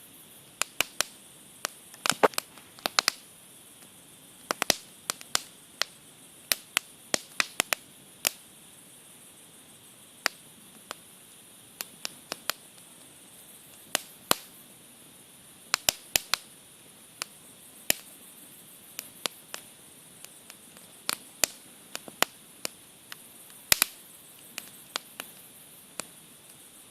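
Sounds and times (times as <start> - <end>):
faint steady hiss: 0.0 - 26.9
campfire crackling and popping: 0.3 - 26.9.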